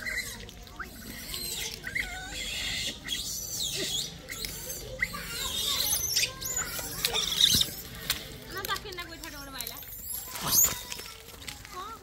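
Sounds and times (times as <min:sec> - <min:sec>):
monkeys squeaky calls: 0:00.0 - 0:08.0, 0:09.3 - 0:11.0.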